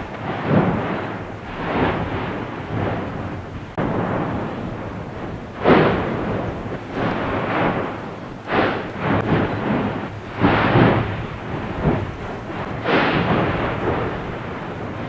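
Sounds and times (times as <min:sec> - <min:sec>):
volcanic blasting surges: 0:00.0 - 0:15.0
volcano rumbling: 0:00.0 - 0:15.0.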